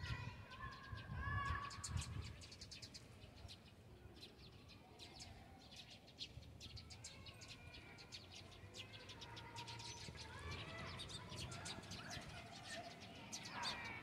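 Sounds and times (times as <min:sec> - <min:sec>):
small birds twittering: 0:00.0 - 0:14.0.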